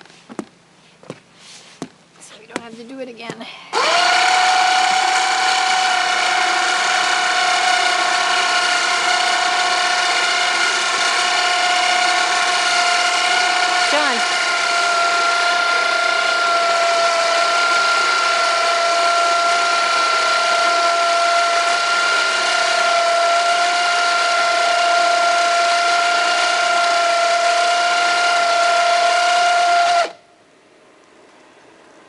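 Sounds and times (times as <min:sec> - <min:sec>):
motor running with gear whine: 0:03.7 - 0:30.2.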